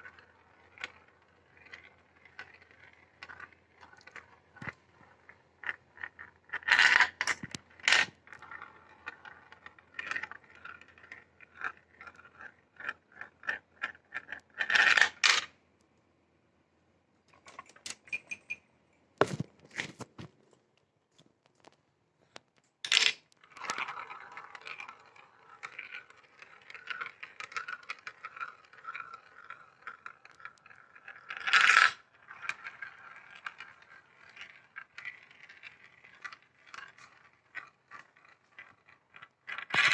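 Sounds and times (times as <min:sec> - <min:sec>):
marbles clattering: 0:00.0 - 0:15.5, 0:22.9 - 0:39.9
marbles rolling on plastic track: 0:00.0 - 0:15.5, 0:22.9 - 0:39.9.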